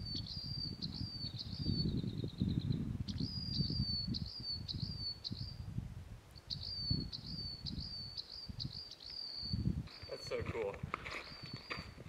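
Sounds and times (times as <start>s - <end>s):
bird chirping: 0.0s - 5.7s, 6.4s - 12.0s.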